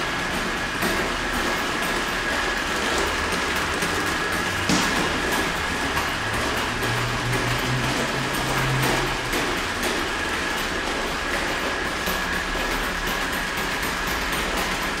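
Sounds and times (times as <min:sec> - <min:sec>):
feet tapping the floor: 0:00.0 - 0:15.0.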